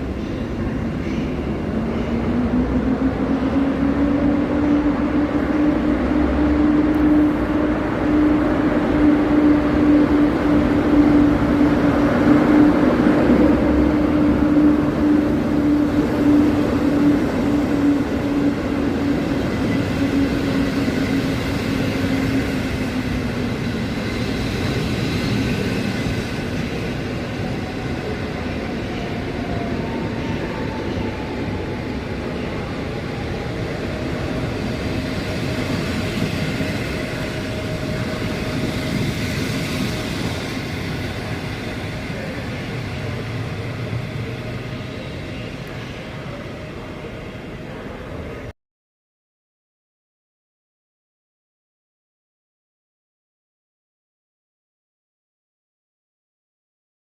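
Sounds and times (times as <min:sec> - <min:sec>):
electric locomotive hum: 0:00.0 - 0:48.5
train running rumble: 0:00.0 - 0:48.5.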